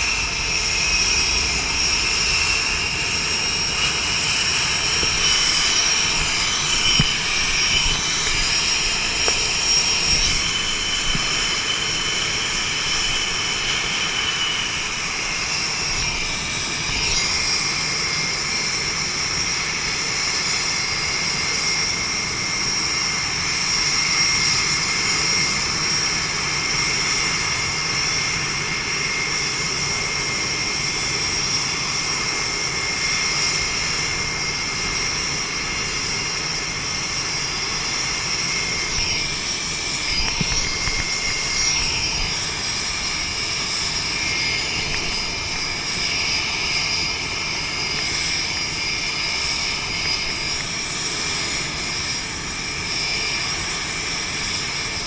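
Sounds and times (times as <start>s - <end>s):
continuous rushing noise: 0.0s - 55.0s
jet engine whine: 0.0s - 55.0s.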